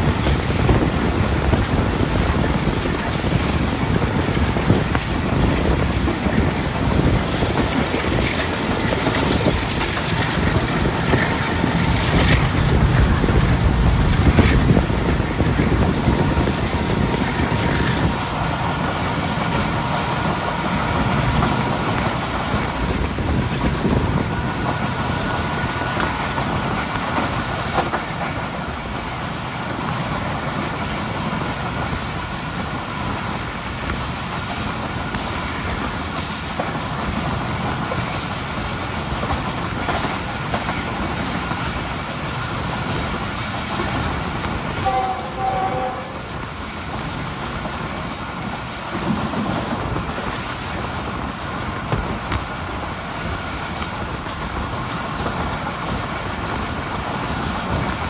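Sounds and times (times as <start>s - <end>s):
sharp knocks of train wheels: 0.0s - 58.0s
train wheels rumbling on rails: 0.0s - 58.0s.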